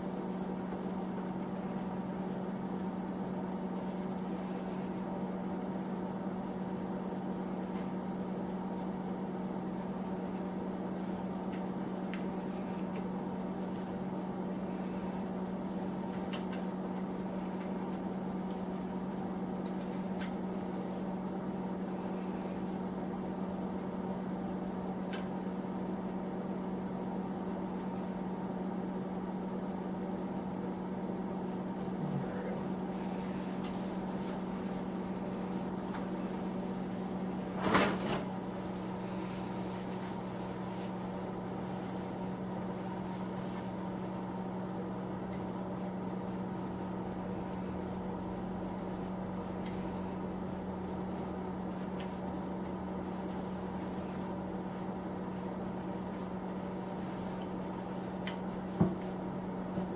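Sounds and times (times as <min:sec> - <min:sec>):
space heater humming: 0:00.0 - 0:59.9.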